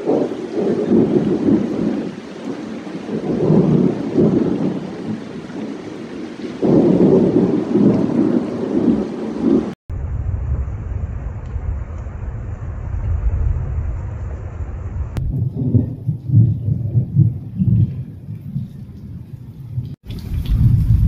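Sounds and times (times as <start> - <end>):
rolling thunder: 0.0 - 21.0
steady rain: 0.0 - 21.0.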